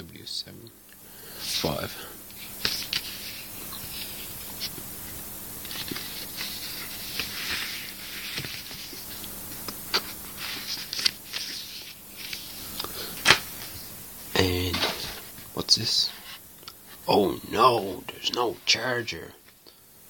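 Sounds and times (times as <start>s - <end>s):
paper and card rustling: 1.4s - 4.9s, 5.6s - 18.9s.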